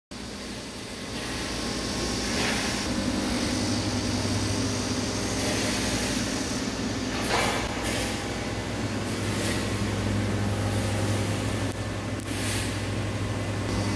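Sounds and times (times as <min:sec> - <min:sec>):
machinery humming: 0:00.1 - 0:13.9.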